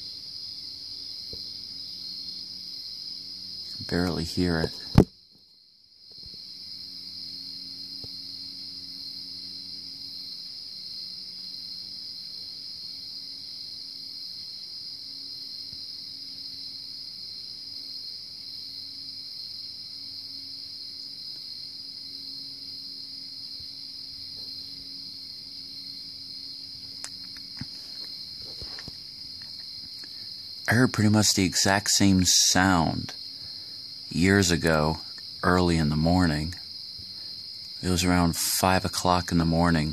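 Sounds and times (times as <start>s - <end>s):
night insects chorus: 0.0s - 39.9s.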